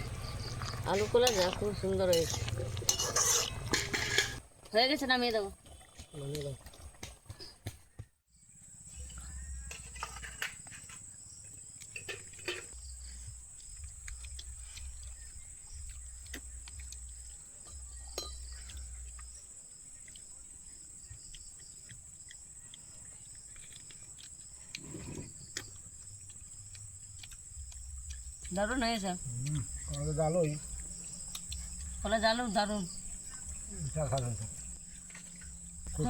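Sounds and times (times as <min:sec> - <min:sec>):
crickets chirring: 0:00.0 - 0:07.6, 0:08.3 - 0:36.0.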